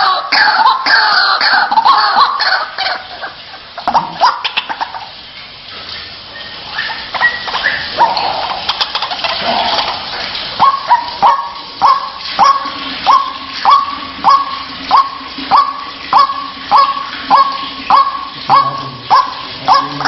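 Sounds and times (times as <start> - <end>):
waterhen calling: 0.0 - 20.0.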